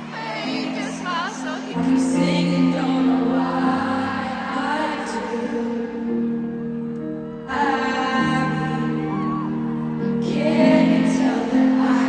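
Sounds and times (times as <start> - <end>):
woman singing: 0.0 - 6.2, 7.4 - 12.0
piano chords: 0.0 - 12.0.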